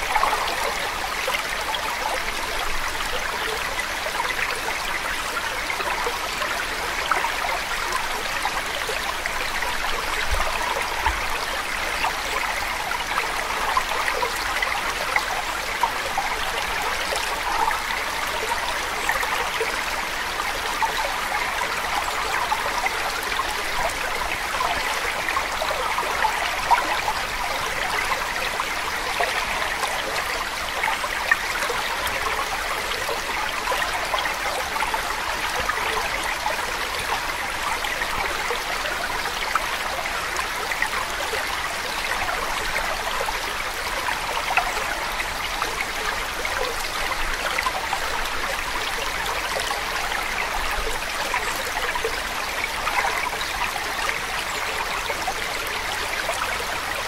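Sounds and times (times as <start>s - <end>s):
babbling stream: 0.0s - 57.0s.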